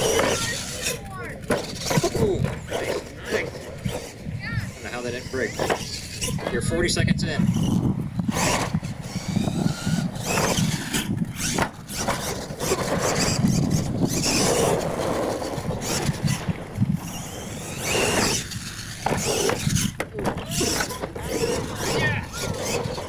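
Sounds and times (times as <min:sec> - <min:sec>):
toy truck motor whining: 0:00.0 - 0:23.0
tyres churning dirt: 0:00.0 - 0:23.0.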